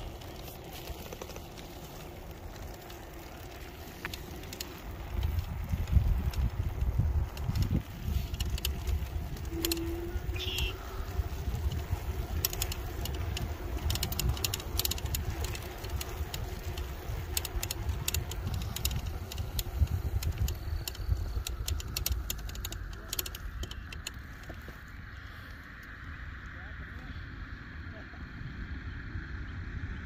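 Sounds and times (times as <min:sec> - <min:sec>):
scooter rattling clicks: 0:00.0 - 0:24.7
wind rumbling on microphone: 0:00.0 - 0:30.0.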